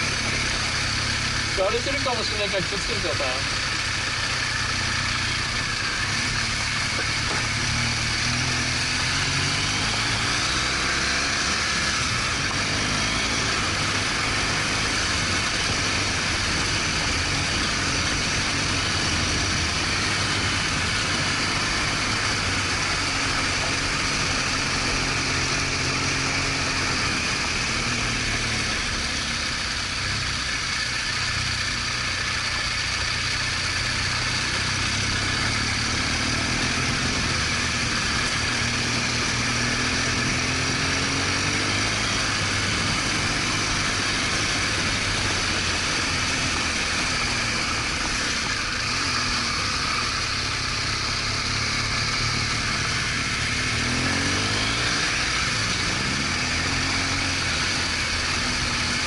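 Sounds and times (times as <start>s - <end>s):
motorcycle engine running: 0.0s - 59.0s
wind and road noise hiss: 0.0s - 59.0s.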